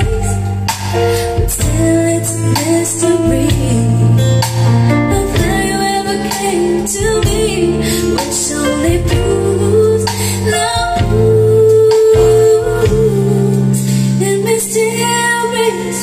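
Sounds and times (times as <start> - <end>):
song with female singer on speaker: 0.0 - 16.0.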